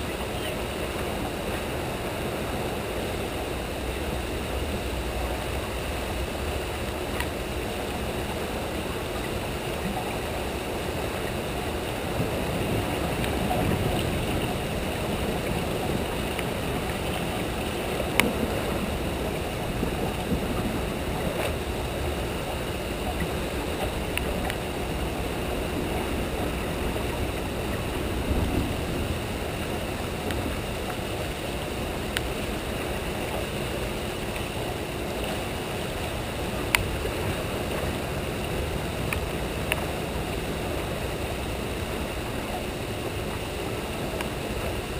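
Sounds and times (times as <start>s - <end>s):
turbulent water rushing: 0.0s - 44.9s.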